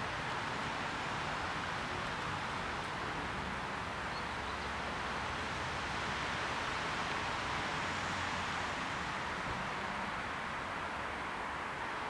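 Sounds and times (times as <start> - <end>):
wind rustling in trees: 0.0 - 12.0.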